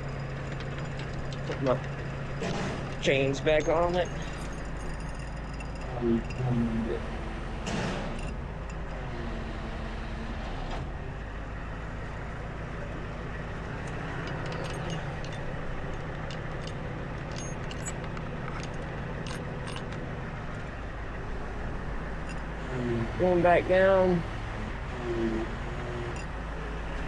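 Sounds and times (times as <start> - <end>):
metal chains clinking: 0.0 - 27.0
truck engine idling: 0.0 - 27.0.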